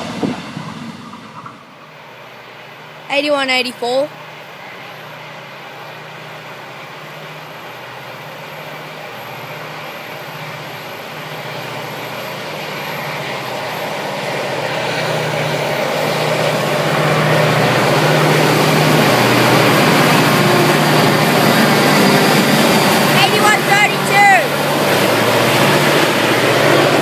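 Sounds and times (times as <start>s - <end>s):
diesel locomotive engines droning: 0.0s - 27.0s
train on the rails: 0.0s - 27.0s.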